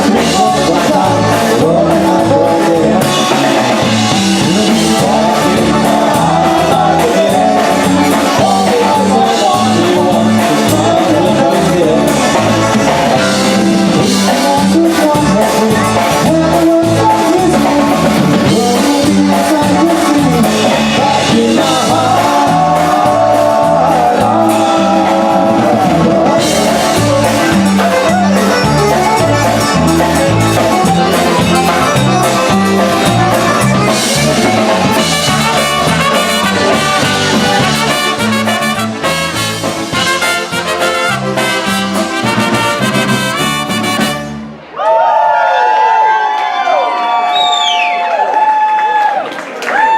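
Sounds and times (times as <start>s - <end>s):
polka band playing: 0.0s - 44.7s.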